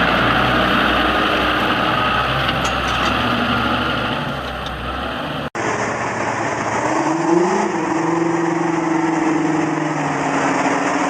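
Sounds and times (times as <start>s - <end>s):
engine revving: 0.0s - 11.0s
heavy machinery engines running: 0.0s - 11.0s.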